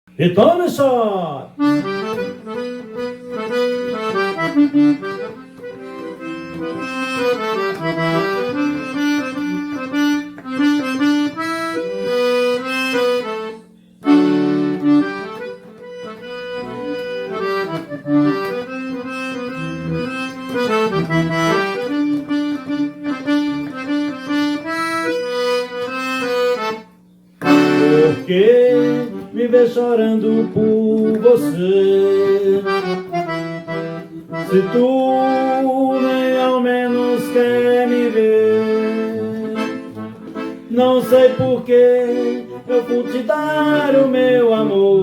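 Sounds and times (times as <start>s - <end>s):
accordion melody: 0.1s - 45.0s.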